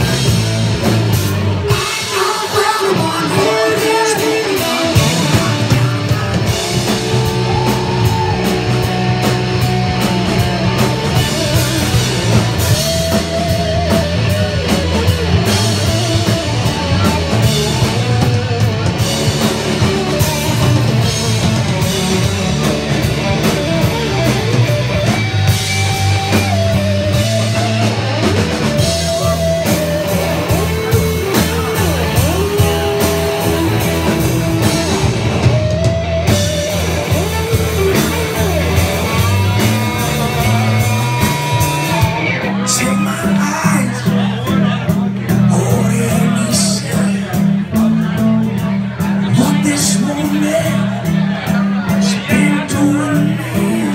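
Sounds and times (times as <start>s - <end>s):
bass guitar: 0.0s - 53.9s
drum kit: 0.0s - 53.9s
electric guitars: 0.0s - 53.9s.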